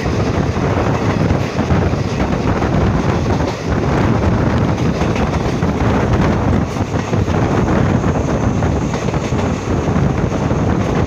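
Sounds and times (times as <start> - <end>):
train rumble: 0.0 - 11.0
wind buffeting microphone: 0.0 - 11.0.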